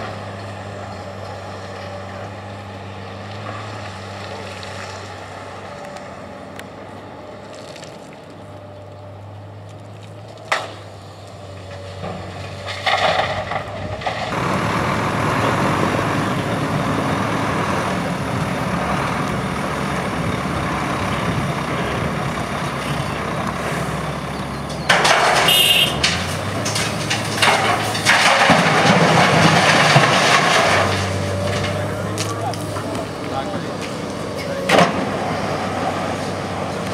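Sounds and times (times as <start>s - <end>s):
excavator diesel engine: 0.0s - 36.9s.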